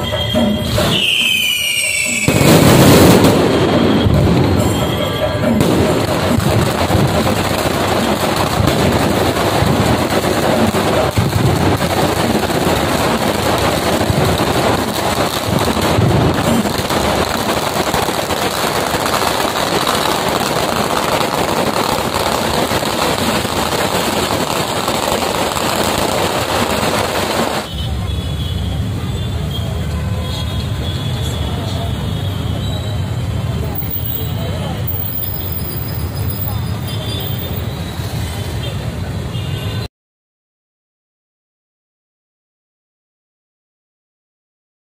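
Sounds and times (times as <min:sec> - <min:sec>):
firecrackers crackling: 0:00.0 - 0:29.9, 0:30.7 - 0:38.2.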